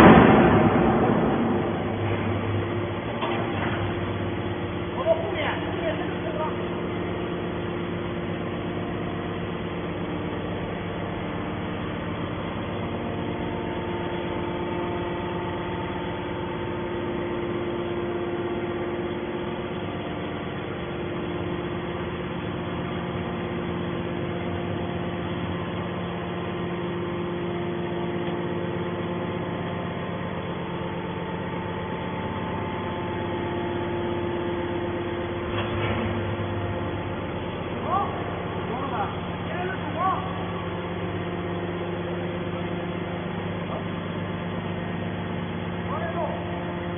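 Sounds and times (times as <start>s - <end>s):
baler machine humming: 0.0s - 46.9s.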